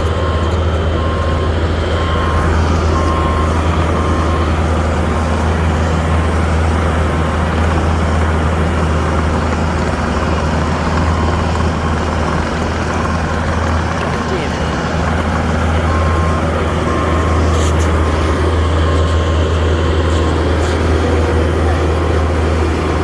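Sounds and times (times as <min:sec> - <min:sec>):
diesel engine running under load: 0:00.0 - 0:23.0
faint backup alarm beeping: 0:00.0 - 0:23.0.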